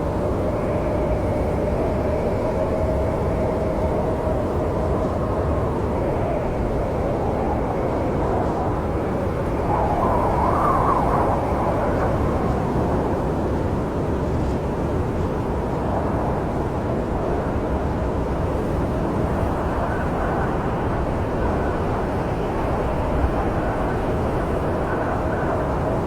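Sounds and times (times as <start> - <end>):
snowstorm wind rushing: 0.0 - 26.0.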